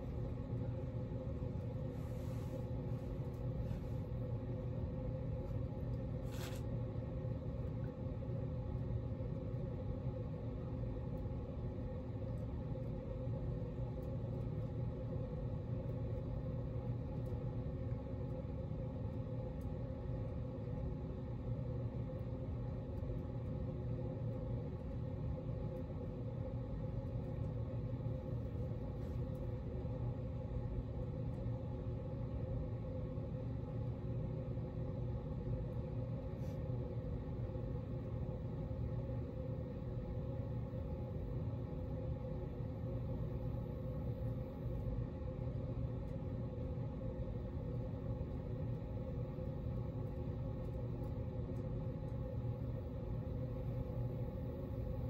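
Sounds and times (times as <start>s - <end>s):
ceiling fan humming: 0.0s - 55.0s.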